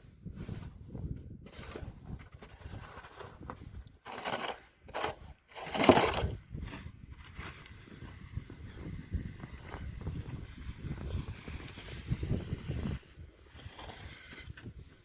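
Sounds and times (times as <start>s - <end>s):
snow shovel scraping snow: 1.5s - 14.5s.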